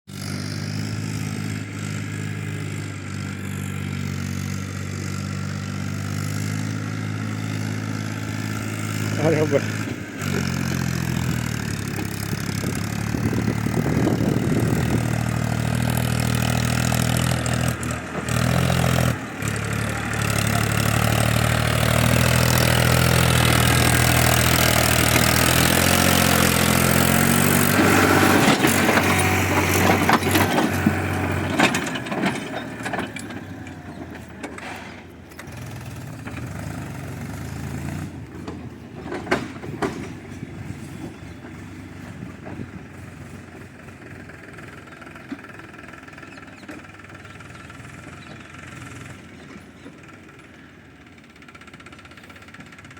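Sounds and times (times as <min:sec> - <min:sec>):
tractor engine running: 0:00.1 - 0:52.9.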